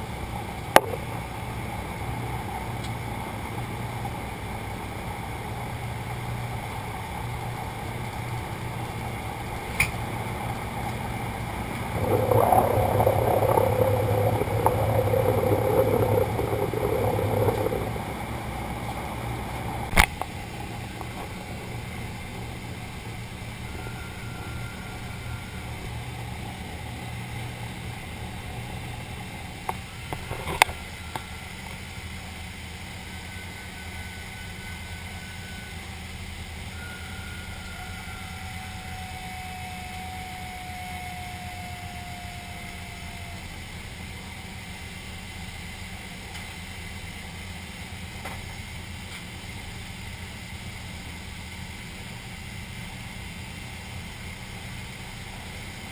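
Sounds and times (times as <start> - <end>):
aircraft engines droning: 0.0 - 55.9.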